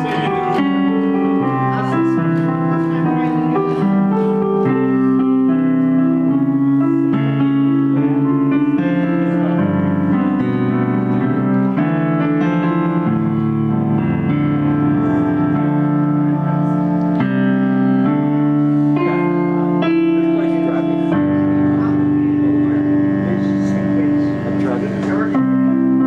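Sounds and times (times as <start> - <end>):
piano chords: 0.0 - 26.0.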